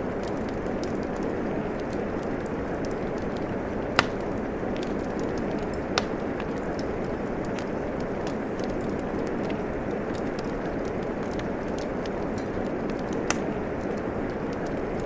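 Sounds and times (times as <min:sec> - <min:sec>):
rain hissing: 0:00.0 - 0:15.0
wood fire crackling and popping: 0:00.0 - 0:15.0.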